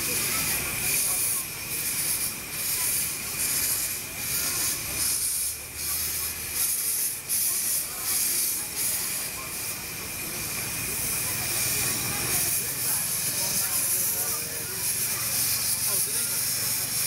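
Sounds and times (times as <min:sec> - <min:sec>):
steam locomotives hissing: 0:00.0 - 0:17.0.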